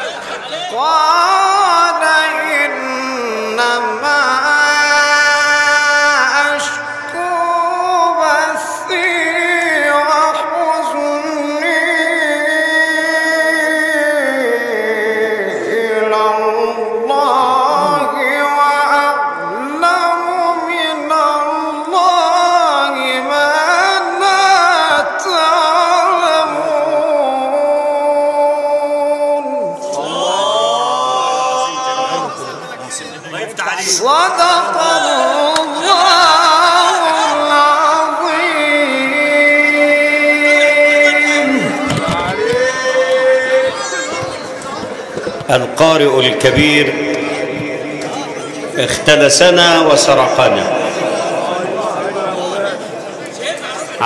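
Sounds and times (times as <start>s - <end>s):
man chanting melodically: 0.5s - 52.9s.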